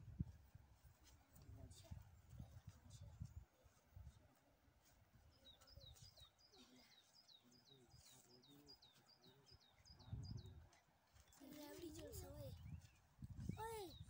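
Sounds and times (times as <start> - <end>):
faint bird chirping: 2.3 - 14.0.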